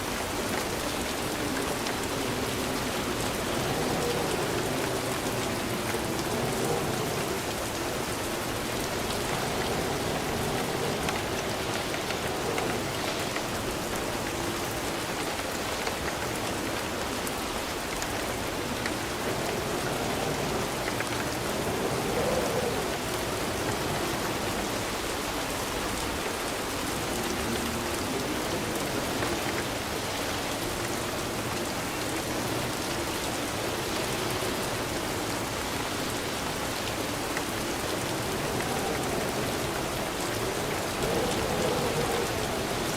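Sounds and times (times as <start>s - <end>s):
steady rainfall: 0.0s - 42.9s.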